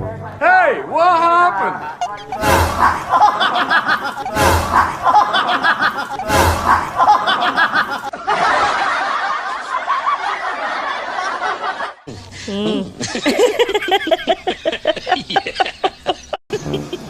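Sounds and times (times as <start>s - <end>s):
loud laughter: 1.6s - 12.0s, 13.0s - 17.0s.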